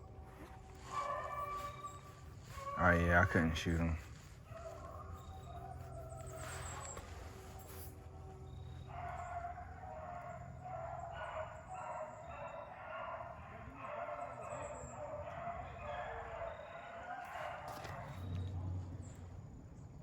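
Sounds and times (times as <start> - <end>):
dogs baying: 0.0 - 19.2.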